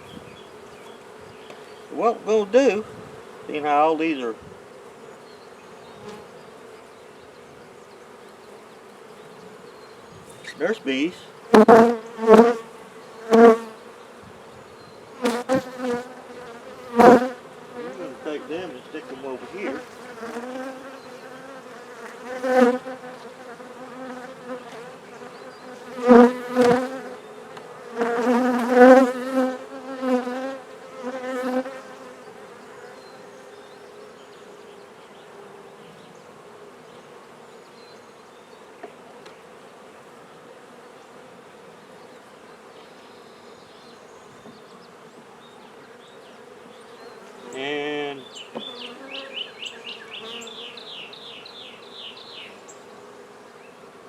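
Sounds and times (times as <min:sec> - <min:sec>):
bees buzzing: 0:00.0 - 0:42.7, 0:43.9 - 0:54.0.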